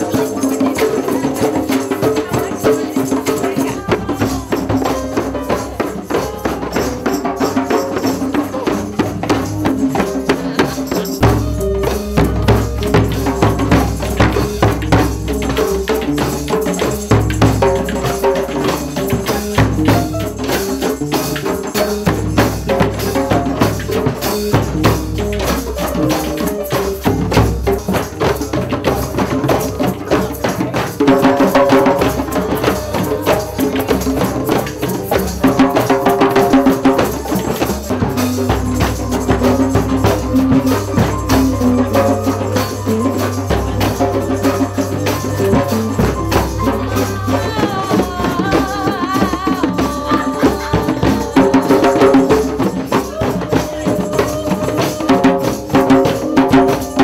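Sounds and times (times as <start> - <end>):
drum kit with cymbals: 0.0 - 57.0
hand drums: 0.0 - 57.0.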